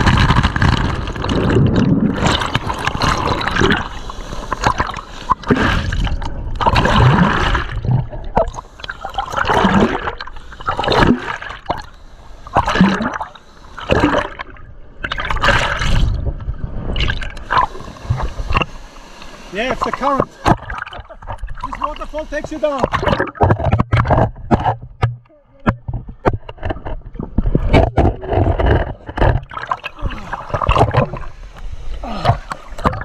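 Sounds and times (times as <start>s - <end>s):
water splashing and gurgling: 0.0s - 33.0s.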